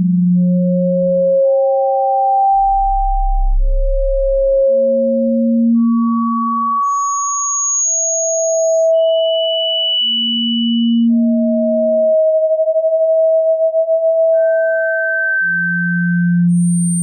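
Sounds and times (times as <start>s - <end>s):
electronic sine tones: 0.0s - 17.0s.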